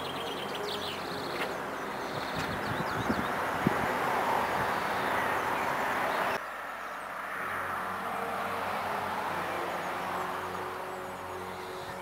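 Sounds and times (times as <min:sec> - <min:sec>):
steady rushing noise: 0:01.2 - 0:12.0.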